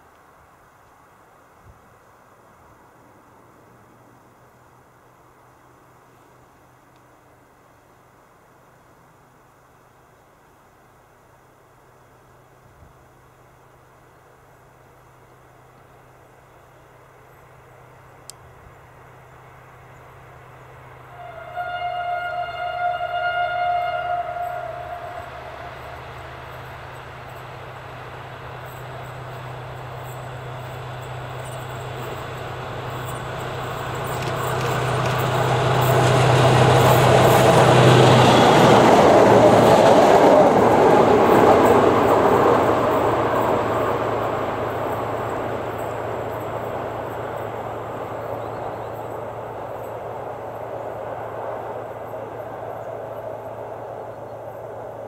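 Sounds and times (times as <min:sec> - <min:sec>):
diesel locomotive engine drone: 0:00.0 - 0:55.0
train wheel and rail noise: 0:00.0 - 0:55.0.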